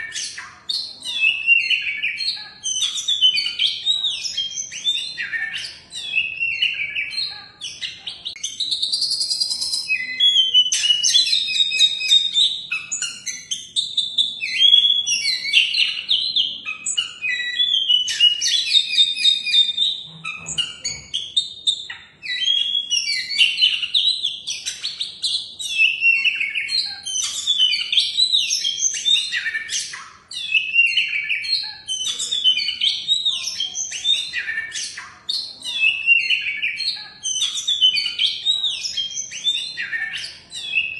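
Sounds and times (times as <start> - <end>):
bird singing whistles and chirps: 0.0 - 40.9.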